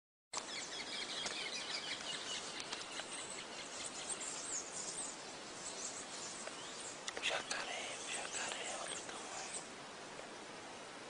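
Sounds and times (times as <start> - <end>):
insects calling: 0.4 - 10.5
birds chirping: 0.4 - 10.6
steady background hiss: 0.4 - 11.0.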